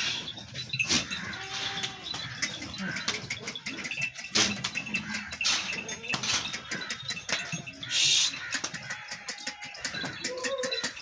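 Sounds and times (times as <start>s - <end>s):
hooves clicking and rustling: 0.0s - 11.0s.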